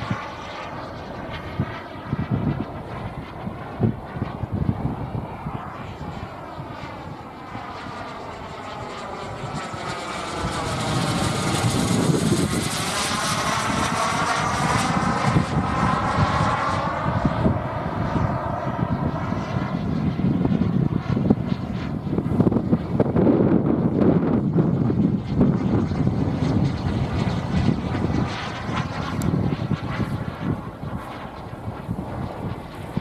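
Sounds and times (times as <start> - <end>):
model jet turbine whining overhead: 0.0 - 33.0.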